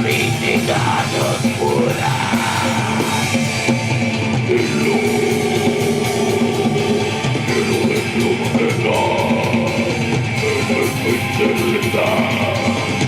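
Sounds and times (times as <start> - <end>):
distorted electric guitar: 0.0 - 13.0
drum kit: 0.0 - 13.0.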